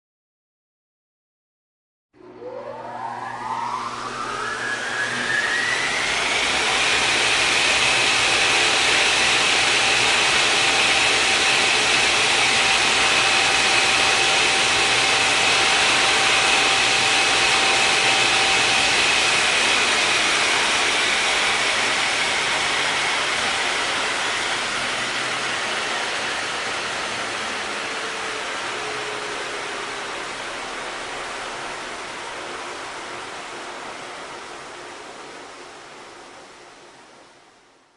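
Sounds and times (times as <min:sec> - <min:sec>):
turbine whine: 0:02.2 - 0:37.3.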